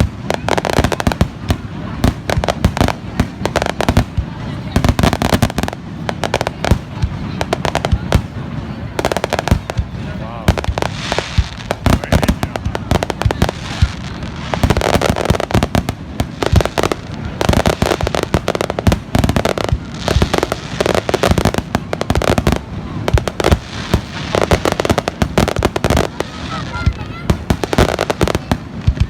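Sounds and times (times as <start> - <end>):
rapid crackling and popping: 0.0 - 29.0.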